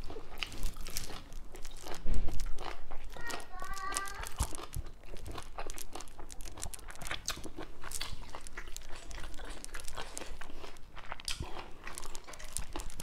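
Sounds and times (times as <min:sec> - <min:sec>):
crunching raw vegetables: 0:00.0 - 0:13.0.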